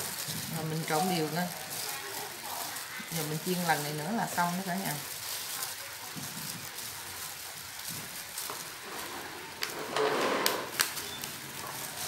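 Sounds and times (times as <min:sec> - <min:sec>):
fries tossed on metal tray: 0:00.0 - 0:12.0
hot oil sizzling: 0:00.0 - 0:12.0.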